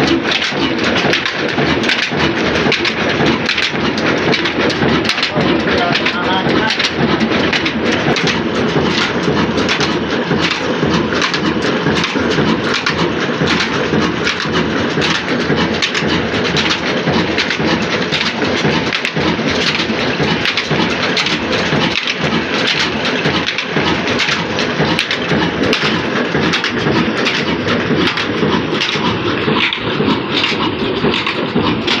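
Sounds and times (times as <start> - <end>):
diesel engine running: 0.0 - 32.0
mill machinery clatter: 0.0 - 32.0.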